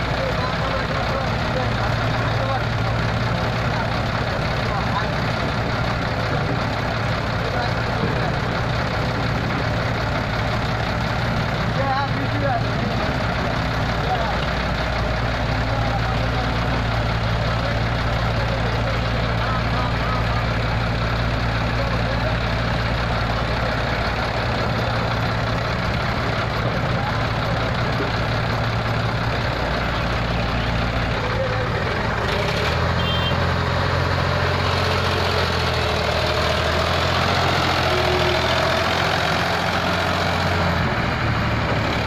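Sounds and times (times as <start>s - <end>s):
excavator working: 0.0s - 42.0s
tractor idling: 0.0s - 42.0s.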